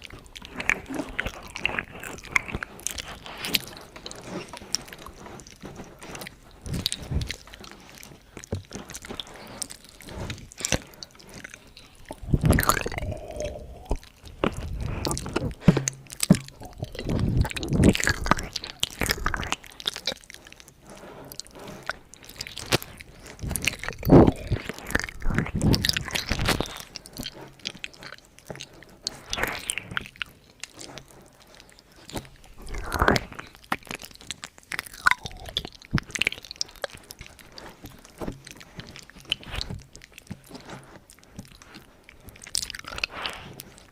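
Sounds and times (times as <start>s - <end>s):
mouth clicks and smacks: 0.0s - 43.9s.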